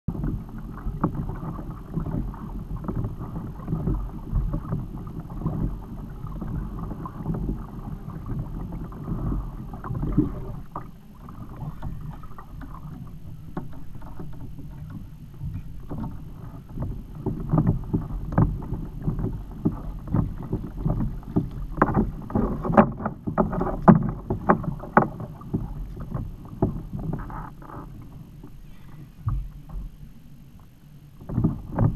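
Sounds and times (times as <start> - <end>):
knocks and splashes: 0.1 - 30.0
water against kayak hull: 0.1 - 31.9.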